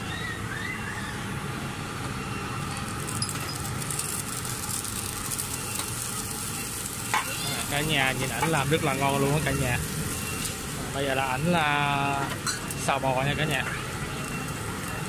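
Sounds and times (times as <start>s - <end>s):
street traffic hum: 0.0s - 15.0s
food frying in a pan: 2.7s - 15.0s.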